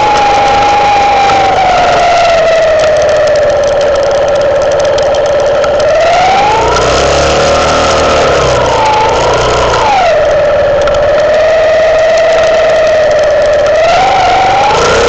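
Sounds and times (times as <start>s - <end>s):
motorcycle engine whining: 0.0s - 15.0s.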